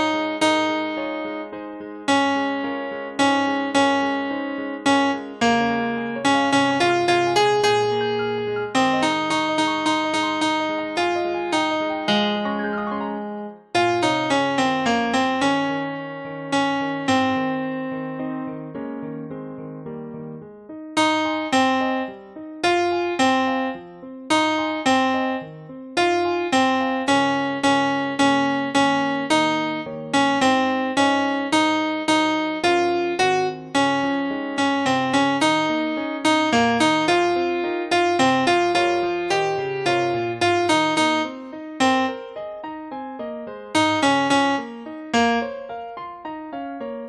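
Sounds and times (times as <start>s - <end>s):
piano-like keyboard melody: 0.0s - 47.0s.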